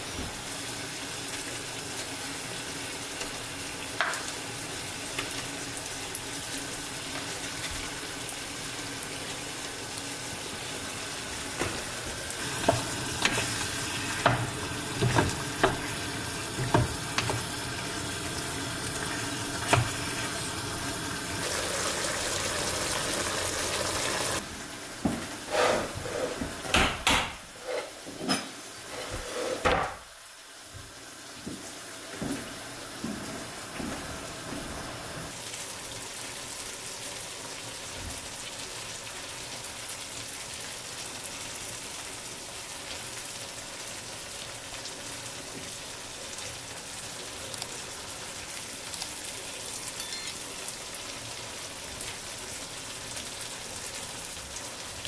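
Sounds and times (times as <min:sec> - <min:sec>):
fat sizzling in a pan: 0:00.0 - 0:26.7, 0:35.2 - 0:55.0.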